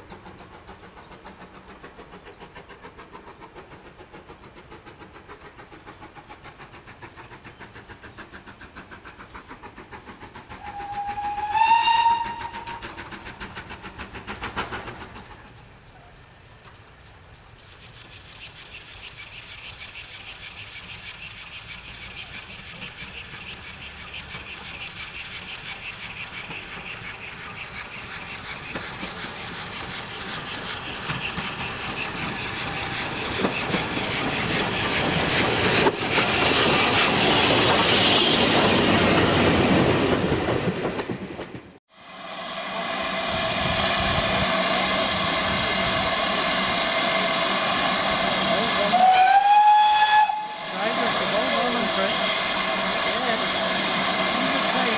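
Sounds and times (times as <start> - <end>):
steam locomotive exhaust beats: 0.0 - 54.9.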